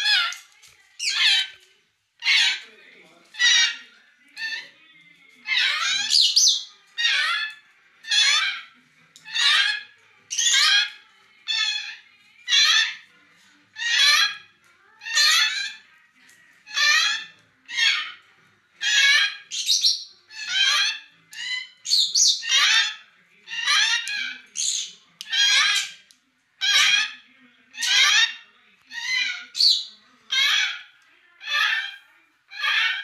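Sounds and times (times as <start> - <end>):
parrots squawking: 0.0 - 0.4, 1.0 - 4.8, 5.4 - 15.9, 16.5 - 33.0.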